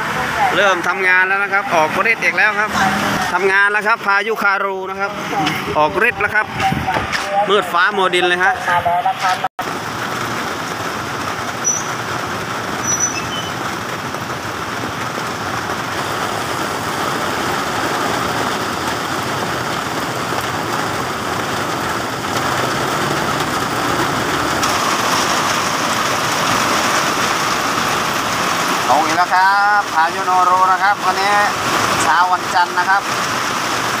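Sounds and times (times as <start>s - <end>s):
heavy rain on wet pavement: 0.0s - 34.0s.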